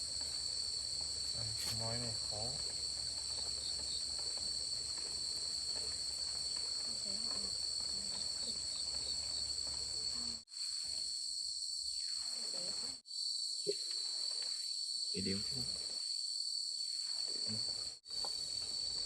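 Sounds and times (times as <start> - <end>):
insect chorus trilling: 0.0 - 19.0.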